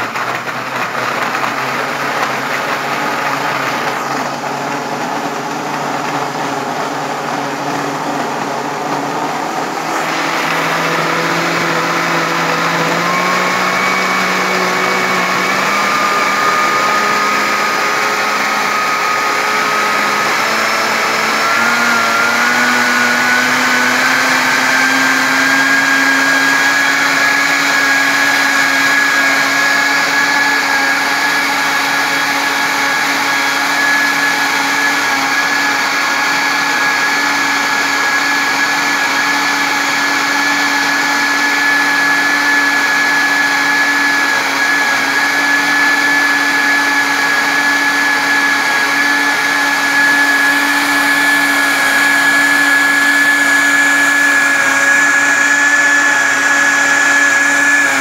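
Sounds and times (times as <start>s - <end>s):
blender motor whining: 0.0s - 58.0s.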